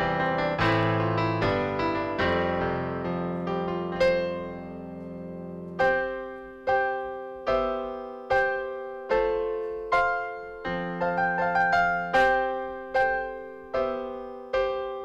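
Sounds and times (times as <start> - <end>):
digital piano playing slow chords: 0.0 - 15.0.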